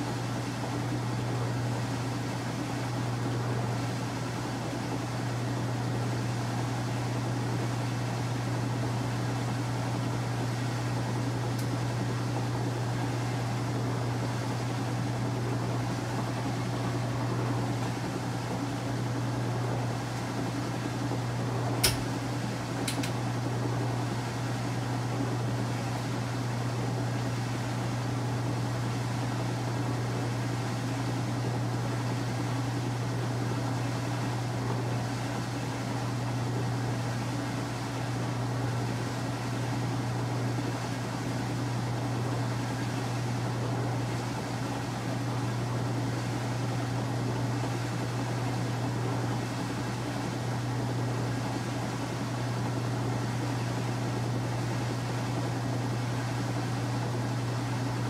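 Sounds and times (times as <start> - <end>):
washing machine humming: 0.0 - 58.0.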